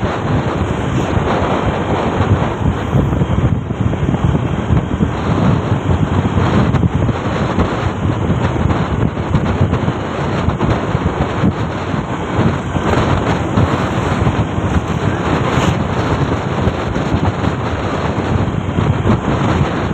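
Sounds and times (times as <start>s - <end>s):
motorcycle running: 0.0s - 19.9s
wind buffeting microphone: 0.0s - 19.9s.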